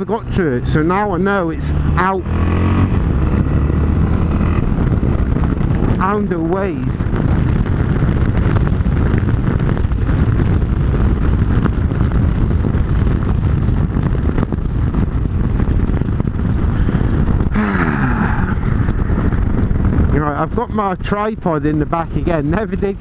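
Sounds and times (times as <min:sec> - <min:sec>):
engine and road noise: 0:00.0 - 0:23.0
wind buffeting microphone: 0:00.0 - 0:23.0.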